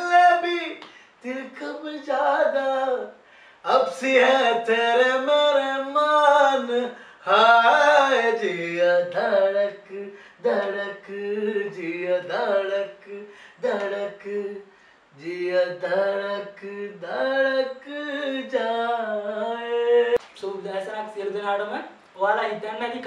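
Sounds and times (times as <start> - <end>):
man singing unaccompanied: 0.0 - 21.1.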